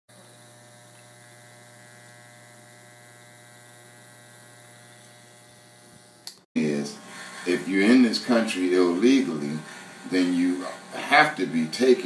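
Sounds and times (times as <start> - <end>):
buzzy electrical hum: 0.1 - 12.0.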